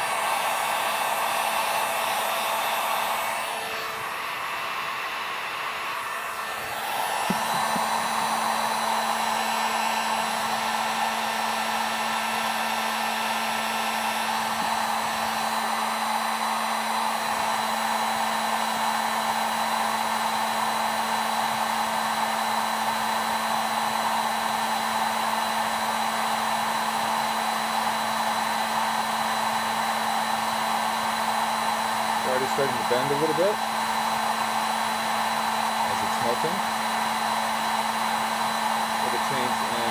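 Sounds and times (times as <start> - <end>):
heat gun fan rushing: 0.0 - 39.9.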